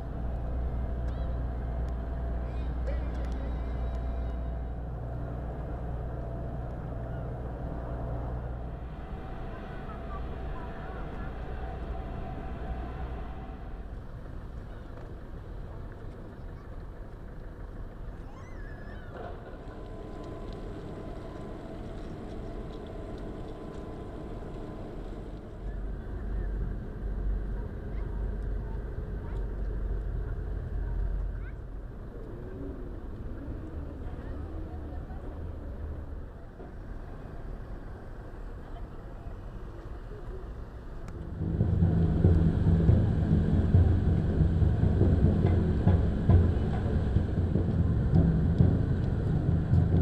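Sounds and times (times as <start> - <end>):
faint steady hum: 0.0 - 50.0
low engine rumble: 0.0 - 50.0.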